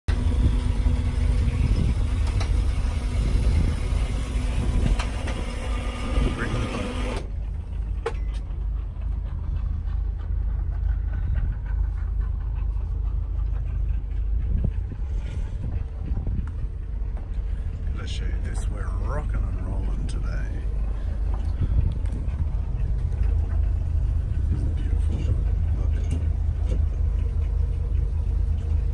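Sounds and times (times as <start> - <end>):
boat engine rumbling: 0.0 - 28.9.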